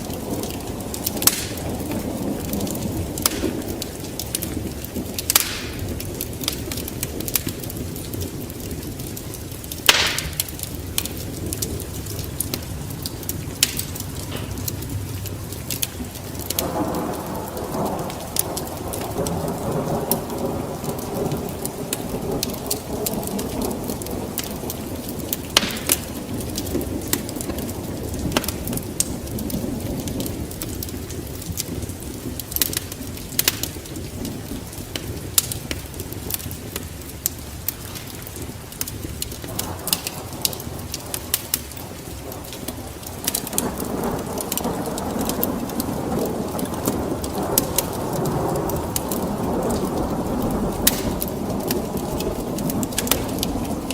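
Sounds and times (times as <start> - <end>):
low rolling thunder: 0.0 - 53.9
steady rain: 0.0 - 53.9.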